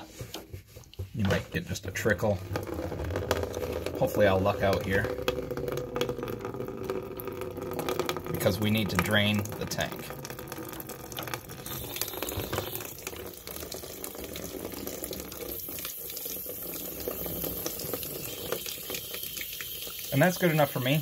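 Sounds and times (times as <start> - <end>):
water stream splashing into tub: 1.2 - 21.0.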